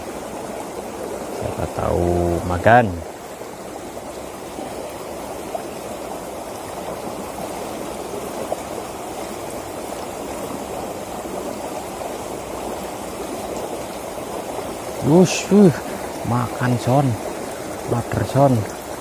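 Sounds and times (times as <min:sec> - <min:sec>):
water rushing along ditch: 0:00.0 - 0:19.0.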